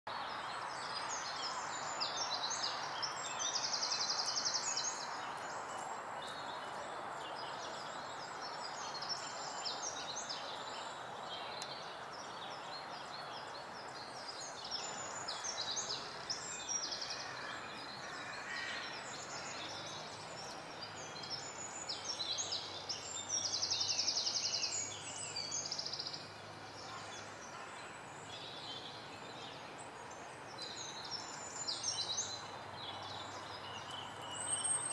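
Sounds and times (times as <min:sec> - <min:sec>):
background hiss: 0:00.1 - 0:34.9
songbirds singing: 0:00.1 - 0:34.9.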